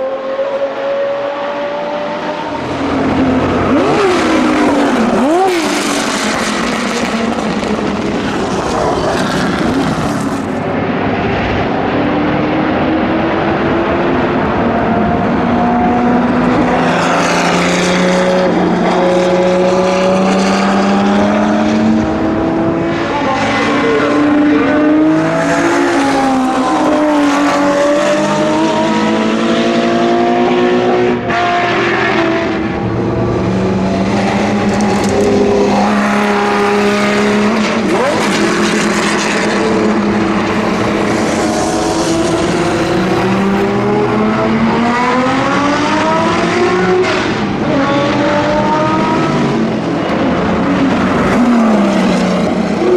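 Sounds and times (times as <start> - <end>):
race car engine accelerating: 0.0 - 52.9.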